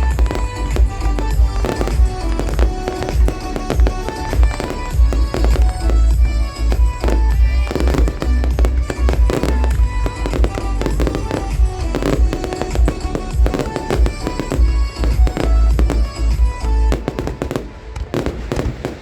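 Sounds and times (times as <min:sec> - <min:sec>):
fireworks booming and cracking: 0:00.0 - 0:19.0
music playing: 0:00.0 - 0:19.0.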